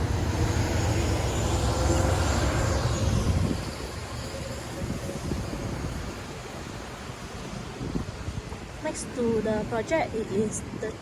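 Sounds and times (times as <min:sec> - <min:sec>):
passing vehicle engine rumble: 0:00.0 - 0:10.7
traffic hum: 0:00.0 - 0:11.0.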